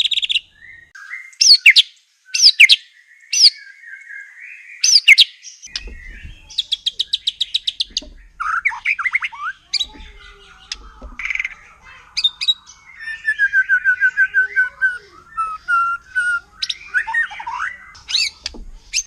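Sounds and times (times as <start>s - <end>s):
bird singing whistled notes: 0.0s - 19.0s
bird trill: 0.0s - 19.0s.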